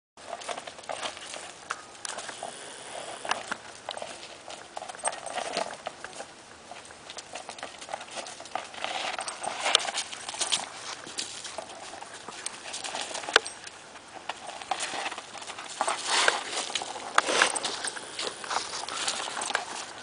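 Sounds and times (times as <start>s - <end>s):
dog paws on dirt and leaves: 0.2s - 20.0s.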